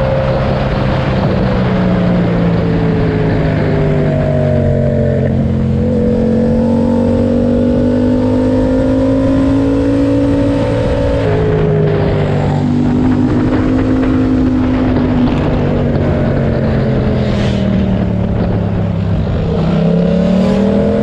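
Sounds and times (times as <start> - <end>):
motorcycle engine accelerating: 0.0 - 21.0
wind rumble: 0.0 - 21.0.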